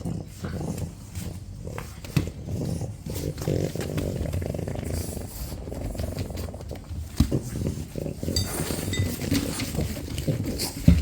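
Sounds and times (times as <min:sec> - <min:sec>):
dog grunting and snuffling: 0:00.0 - 0:11.0.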